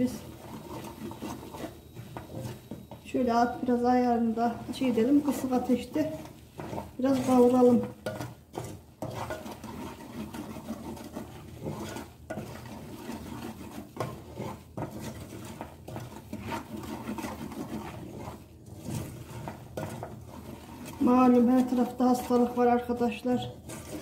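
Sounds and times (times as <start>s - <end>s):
wooden spoon scraping a pan: 0.0s - 24.0s.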